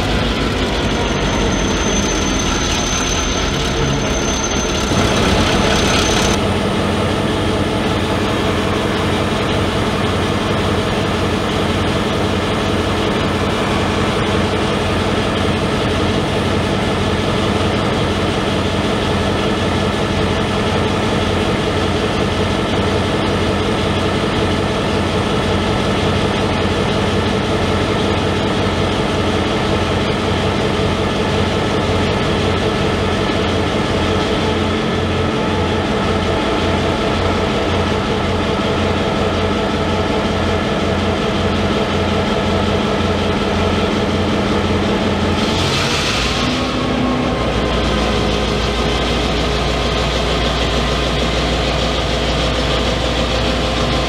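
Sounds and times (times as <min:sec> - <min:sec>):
locomotive engines idling: 0:00.0 - 0:45.7, 0:46.4 - 0:54.0.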